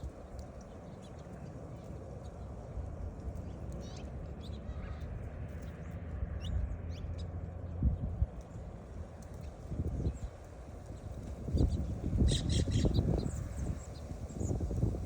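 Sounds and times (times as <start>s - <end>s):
small birds chirping: 0.4s - 7.3s, 9.3s - 15.0s.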